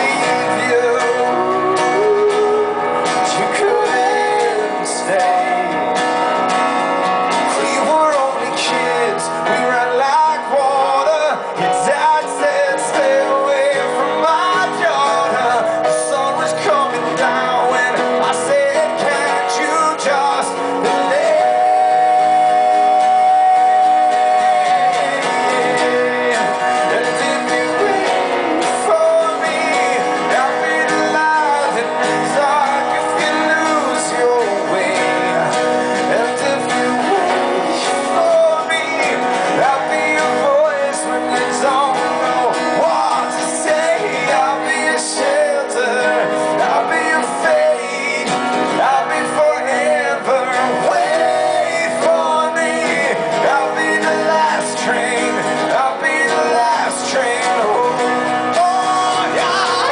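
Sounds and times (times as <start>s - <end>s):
man singing: 0.0s - 59.9s
strummed acoustic guitar: 0.0s - 59.9s.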